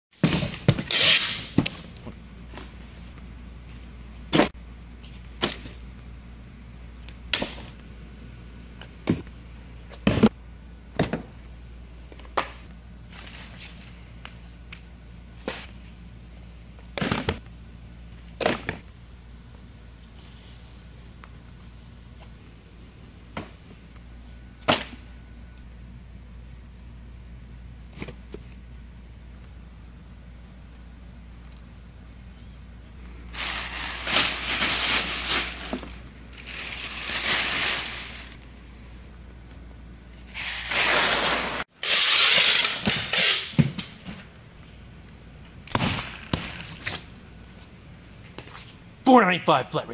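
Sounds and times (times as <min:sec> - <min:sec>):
steady low hum: 0:00.1 - 0:40.7, 0:41.3 - 0:49.9.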